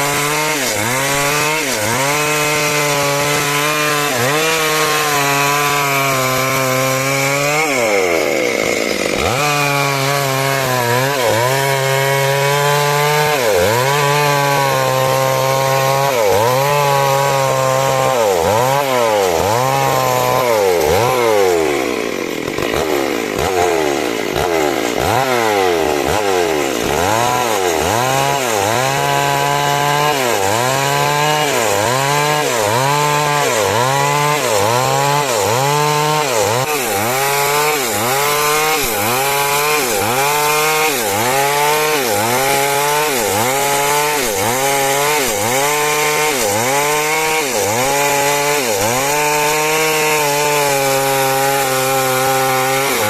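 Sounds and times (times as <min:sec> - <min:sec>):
chainsaw sawing through timber: 0:00.0 - 0:53.0.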